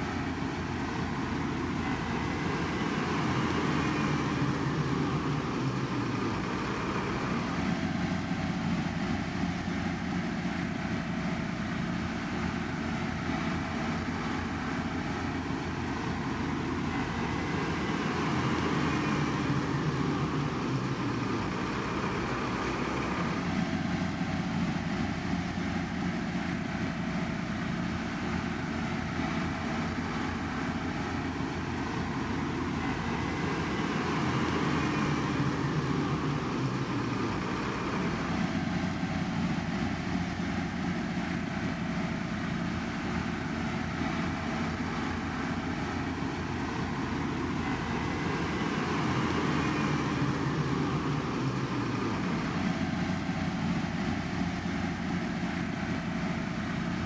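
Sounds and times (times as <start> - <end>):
heavy construction machinery running: 0.0 - 57.0.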